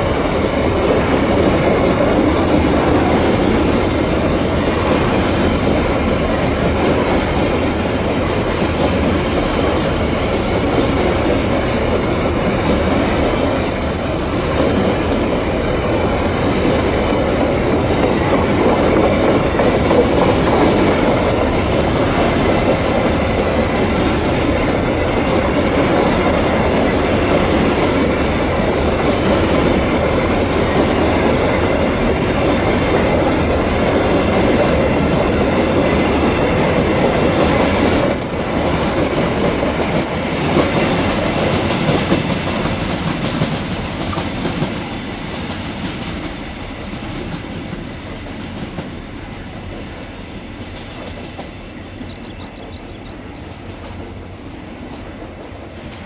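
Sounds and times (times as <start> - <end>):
train wagons rolling on rails: 0.0 - 56.0.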